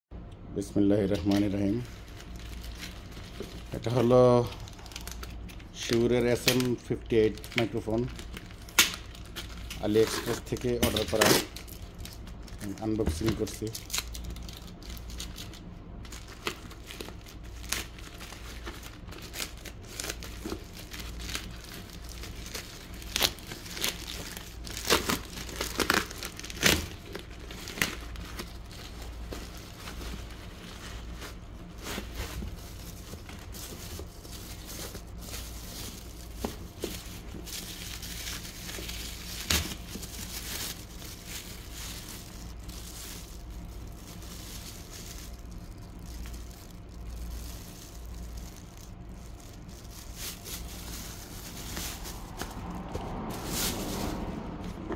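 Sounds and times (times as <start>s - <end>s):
plastic mailer tearing and crinkling: 1.0s - 54.9s.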